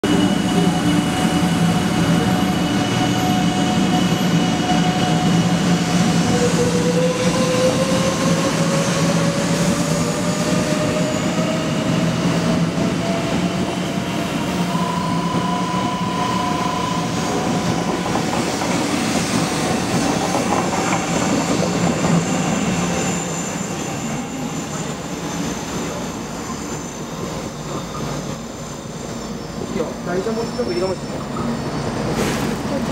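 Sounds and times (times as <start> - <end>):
train whine rising in pitch: 0.0 - 32.1
train wheels rumbling: 0.0 - 32.9.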